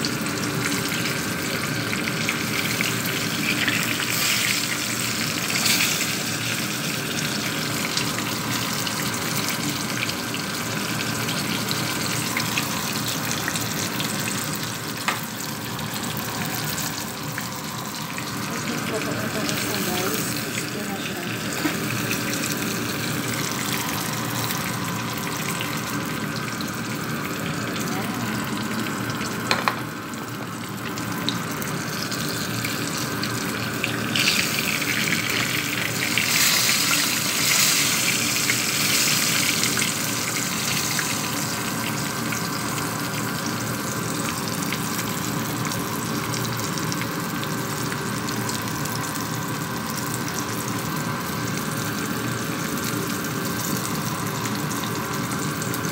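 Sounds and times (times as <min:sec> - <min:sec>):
fish sizzling in oil: 0:00.0 - 0:55.9.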